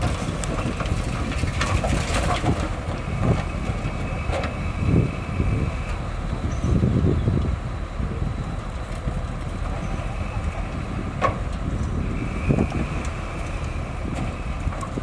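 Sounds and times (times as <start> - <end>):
diesel machinery engine rumble: 0.0 - 15.0.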